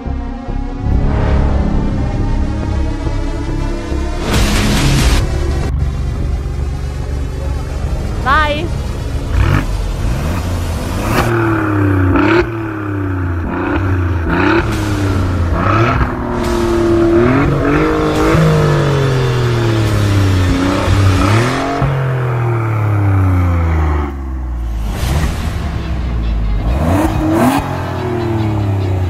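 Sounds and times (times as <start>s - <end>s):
car engine revving through gears: 2.2s - 25.8s, 26.6s - 29.0s.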